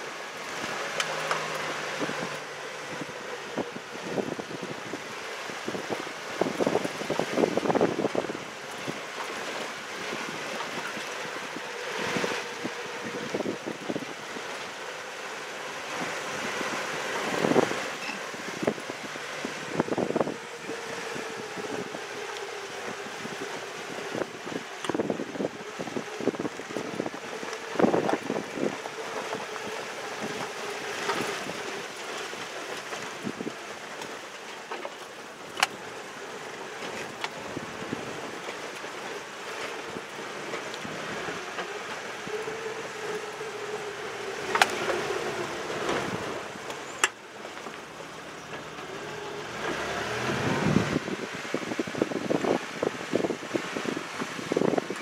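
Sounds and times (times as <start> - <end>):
road and gravel rumble: 0.0 - 55.0
vehicle engine hum: 0.0 - 55.0.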